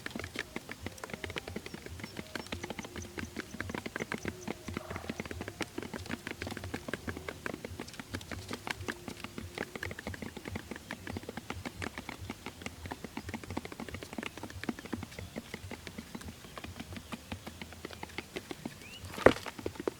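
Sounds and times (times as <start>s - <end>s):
light tapping and clicking: 0.0s - 19.9s.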